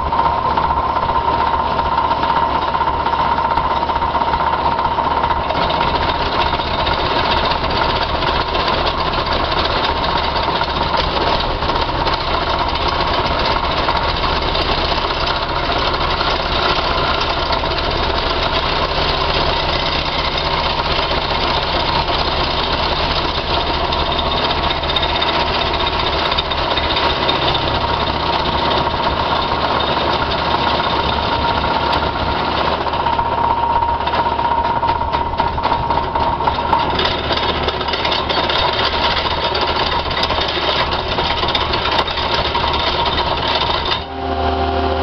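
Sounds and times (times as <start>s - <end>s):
plate compactor rattling on gravel: 0.0s - 44.1s
machine engine running: 0.0s - 45.0s.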